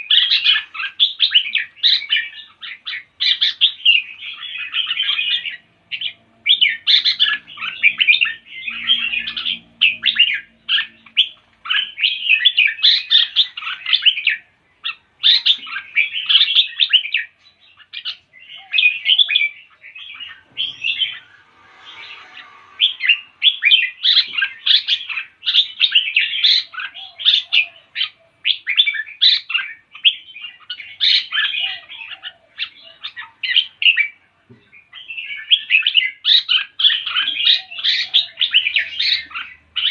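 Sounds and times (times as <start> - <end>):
songbird chirping and singing: 0.0 - 39.9.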